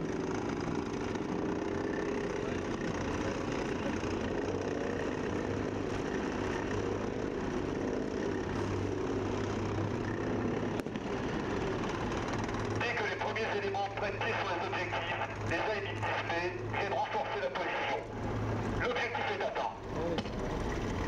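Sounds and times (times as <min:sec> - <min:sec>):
deep vehicle engine hum: 0:00.0 - 0:21.0.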